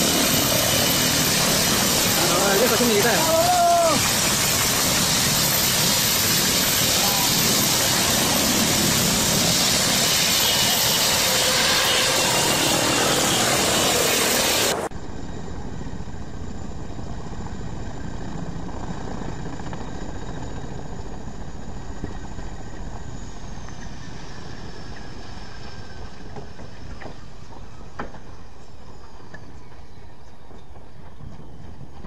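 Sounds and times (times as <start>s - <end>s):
helicopter rotor and turbine: 0.0s - 32.0s
high turbine whine: 0.0s - 32.0s.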